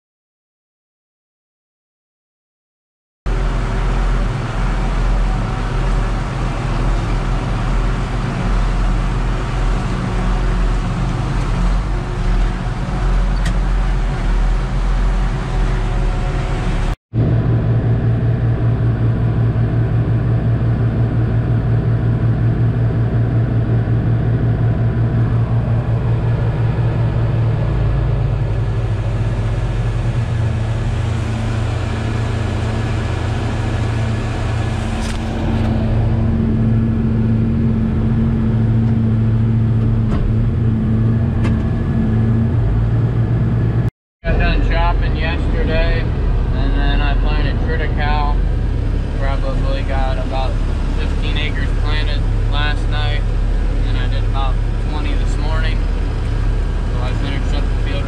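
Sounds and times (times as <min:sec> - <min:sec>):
diesel engine humming: 0:03.3 - 0:58.0
high steady whine: 0:03.3 - 0:58.0.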